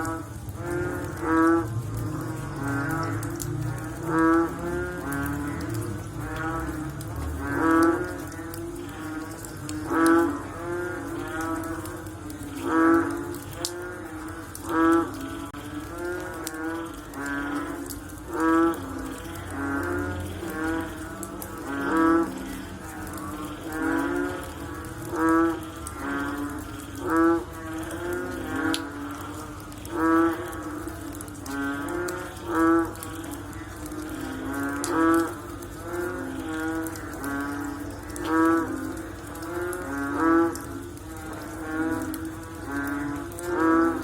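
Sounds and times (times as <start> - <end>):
frogs croaking: 0.0 - 44.0
loud frog call: 0.0 - 44.0.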